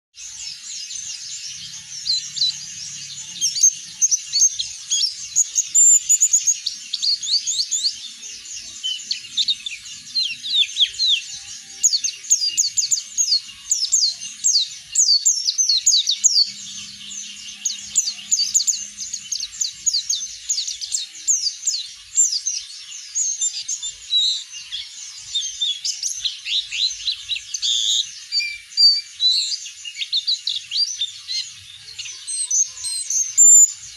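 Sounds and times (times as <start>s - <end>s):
bird singing rapid high chirps: 0.2s - 33.9s.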